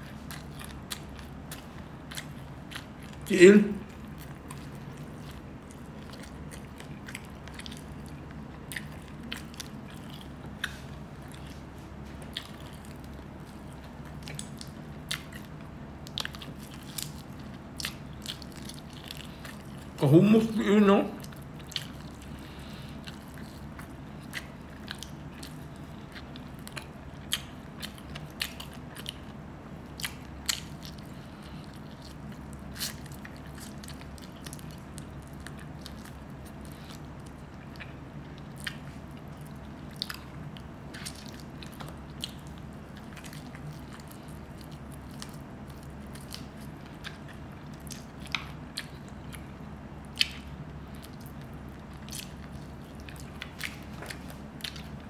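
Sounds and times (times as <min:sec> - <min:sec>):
chewing and biting: 0:00.0 - 0:20.5, 0:21.1 - 0:55.0
steady low hum: 0:00.0 - 0:55.0.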